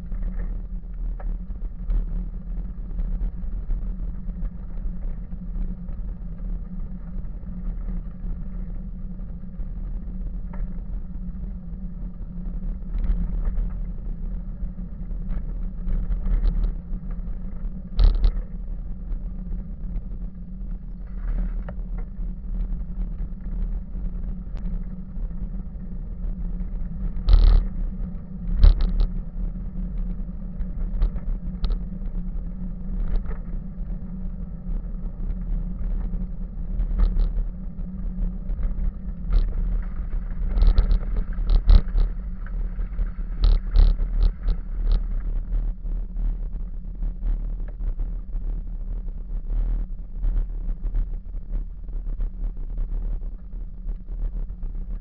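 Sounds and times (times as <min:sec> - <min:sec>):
bicycle tyres rumbling on gravel: 0:00.0 - 0:46.9.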